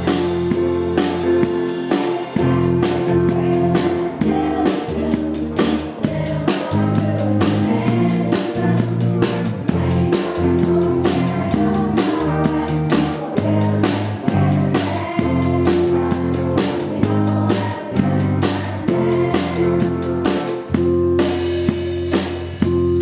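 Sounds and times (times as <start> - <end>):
bass guitar: 0.0 - 23.0
drum kit beat: 0.0 - 23.0
electric guitar: 0.0 - 23.0
keyboard: 0.0 - 23.0.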